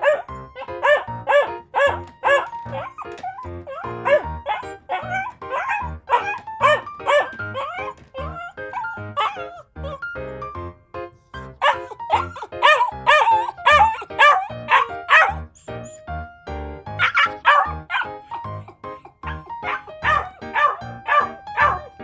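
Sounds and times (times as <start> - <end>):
dog barking and yipping: 0.0 - 10.1, 11.4 - 15.9, 17.0 - 22.0
background music: 0.0 - 22.0.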